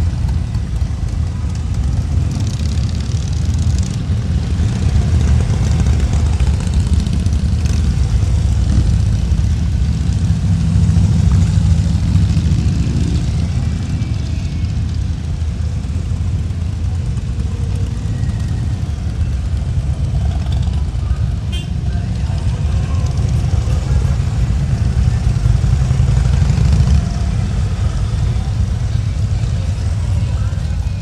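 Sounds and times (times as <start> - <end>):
low wind rumble: 0.0 - 31.0
motorcycle engine drone: 0.0 - 31.0.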